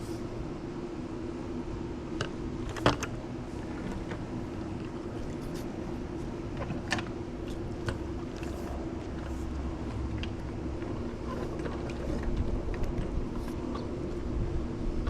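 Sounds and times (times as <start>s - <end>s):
pool pump humming: 0.0s - 15.0s.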